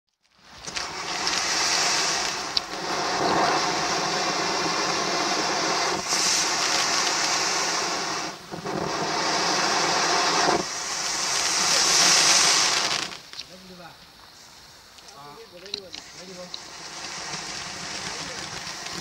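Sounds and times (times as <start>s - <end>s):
firework fountain hissing: 0.2s - 19.0s.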